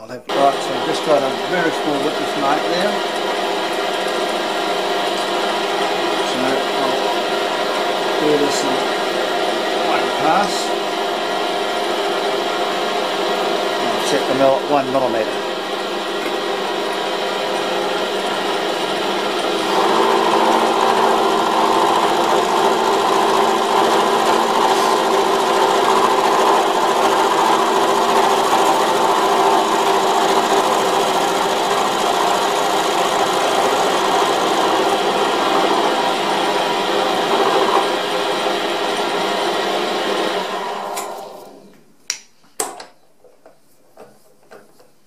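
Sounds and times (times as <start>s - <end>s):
milling machine cutting steel: 0.3s - 41.6s.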